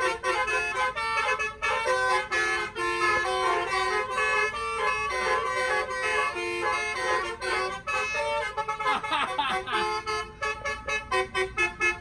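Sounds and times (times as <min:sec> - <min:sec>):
multi-tone horn playing tune: 0:00.0 - 0:12.0.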